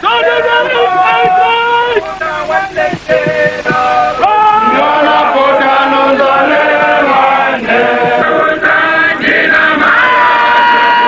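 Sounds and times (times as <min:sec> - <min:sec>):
male voices chanting in chorus: 0:00.0 - 0:11.0.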